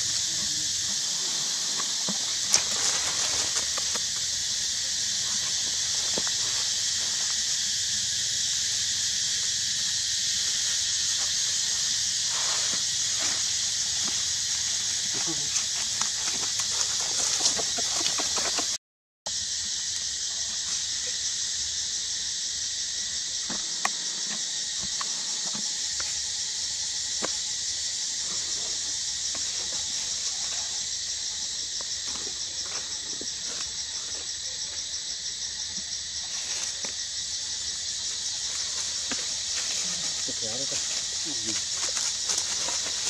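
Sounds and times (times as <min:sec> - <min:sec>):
high insect chorus: 0:00.0 - 0:43.0.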